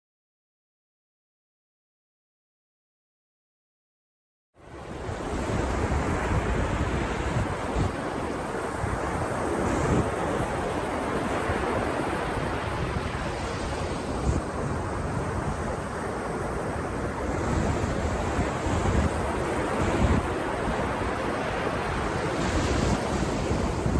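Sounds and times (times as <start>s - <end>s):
ocean surf on a beach: 4.6s - 23.9s
wind rumbling on microphone: 4.7s - 23.9s.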